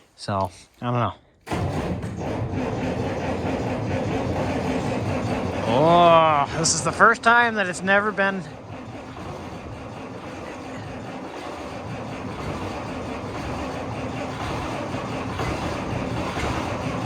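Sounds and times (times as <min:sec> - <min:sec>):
diesel engine cranking: 0:01.4 - 0:17.0.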